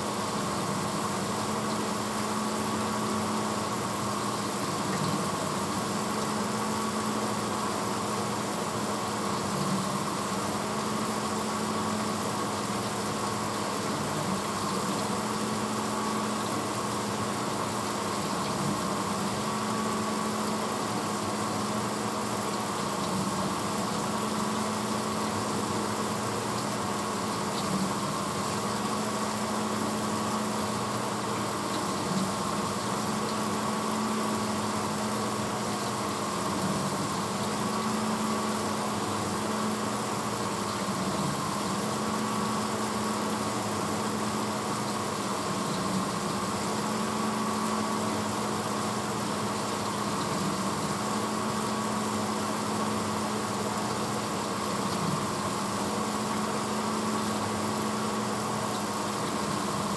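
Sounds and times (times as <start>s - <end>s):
dishwasher motor hum: 0.0s - 59.9s.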